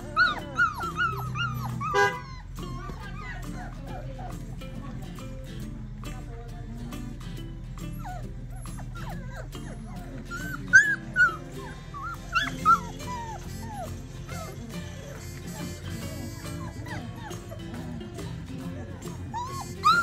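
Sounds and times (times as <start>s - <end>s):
puppies whining and yipping: 0.0s - 5.5s, 7.5s - 20.0s.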